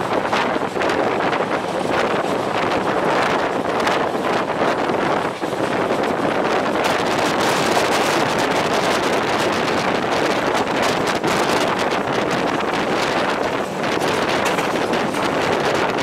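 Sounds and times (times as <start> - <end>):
train wheels on track: 0.0 - 16.0
wind rushing past microphone: 0.0 - 16.0.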